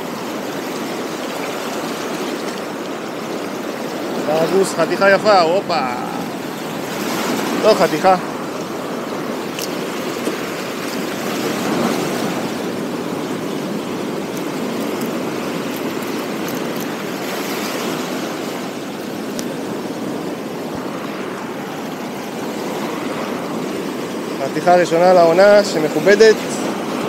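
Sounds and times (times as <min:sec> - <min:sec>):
surf washing over rocks: 0:00.0 - 0:27.0.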